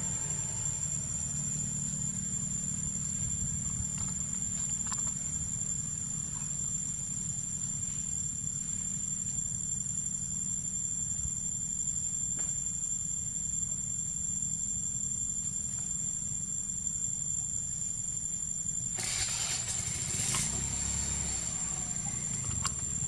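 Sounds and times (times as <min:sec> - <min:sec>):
low steady rumble: 0:00.0 - 0:12.2, 0:12.9 - 0:23.0
high-pitched insect chorus: 0:00.0 - 0:23.0.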